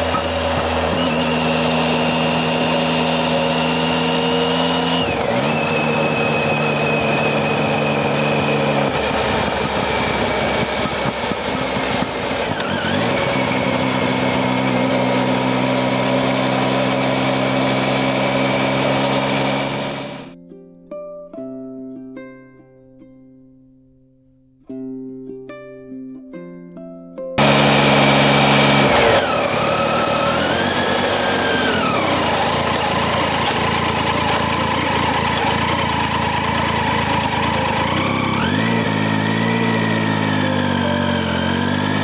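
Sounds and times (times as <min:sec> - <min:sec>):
motorcycle engine running: 0:00.0 - 0:20.4, 0:27.4 - 0:42.0.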